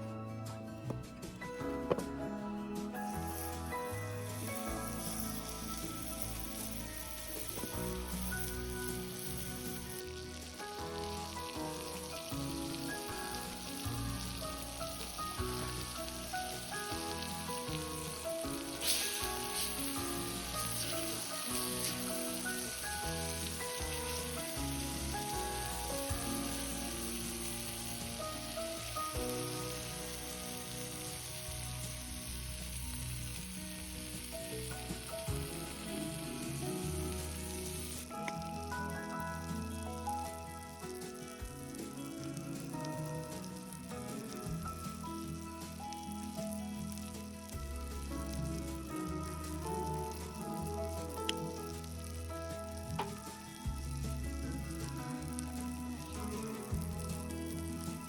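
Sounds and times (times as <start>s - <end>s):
background music with melody: 0.0s - 58.0s
food sizzling: 0.8s - 58.0s.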